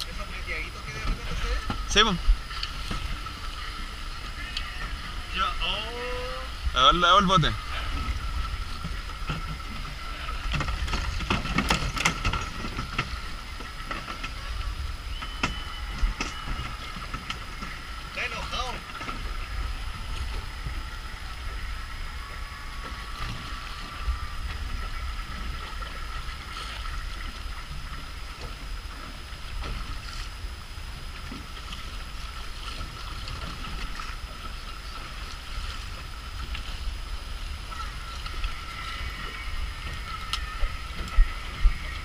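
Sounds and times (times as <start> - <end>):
steady low rumble: 0.0 - 42.0
water lapping against boat hull: 0.0 - 42.0.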